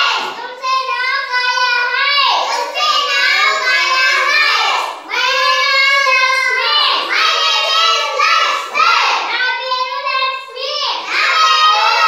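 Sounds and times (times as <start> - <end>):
children singing: 0.0 - 0.4, 1.8 - 12.0.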